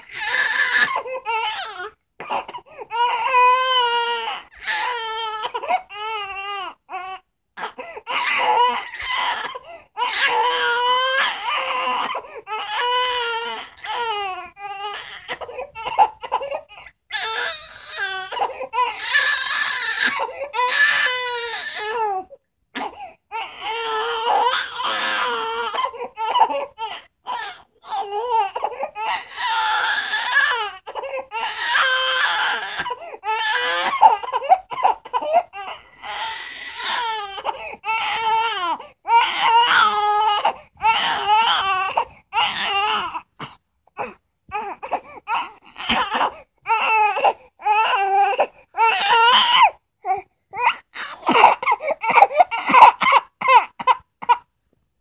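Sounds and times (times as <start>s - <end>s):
infant crying: 0.0s - 54.5s.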